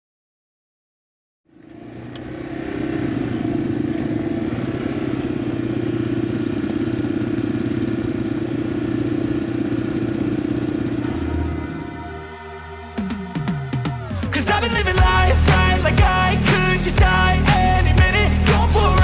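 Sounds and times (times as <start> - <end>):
motorcycle engine cruising: 1.5 - 19.0.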